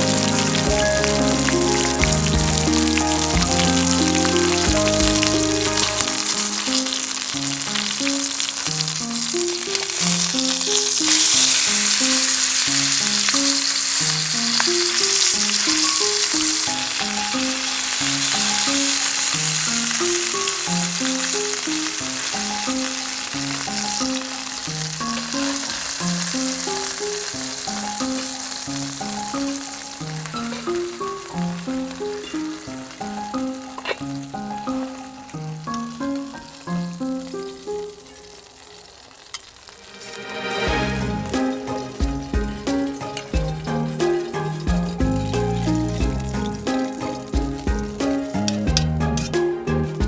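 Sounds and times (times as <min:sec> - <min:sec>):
food sizzling in a pan: 0:00.0 - 0:49.7
background music melody: 0:00.0 - 0:50.0.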